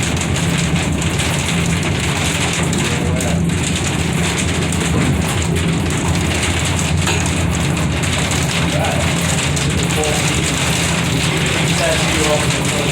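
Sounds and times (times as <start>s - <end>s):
heavy rain drumming: 0.0s - 12.9s.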